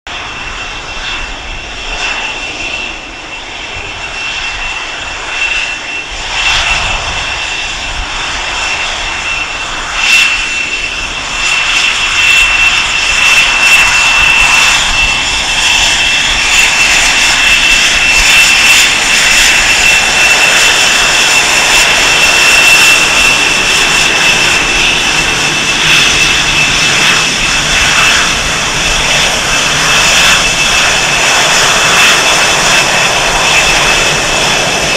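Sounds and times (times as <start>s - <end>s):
jet engines taxiing: 0.1s - 34.9s.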